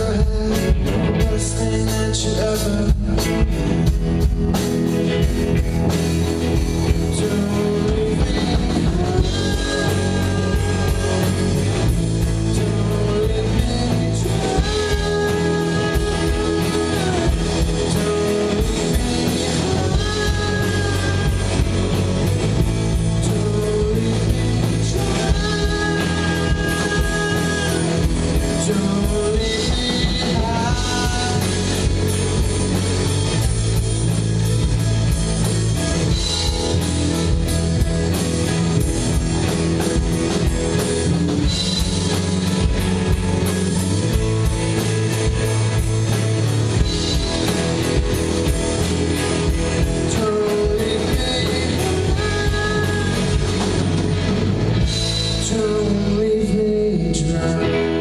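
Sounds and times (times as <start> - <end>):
live rock band: 0.0 - 58.0.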